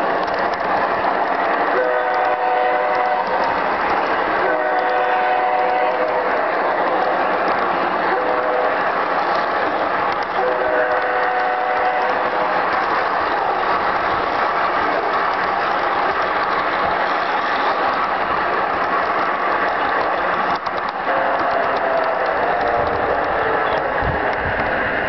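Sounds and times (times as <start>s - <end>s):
model train rattling: 0.0s - 25.0s.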